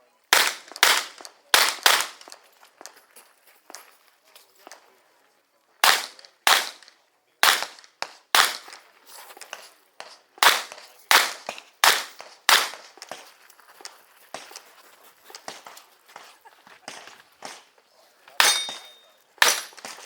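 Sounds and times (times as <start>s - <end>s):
faint cracks and knocks: 0.5s - 5.0s, 7.7s - 20.0s.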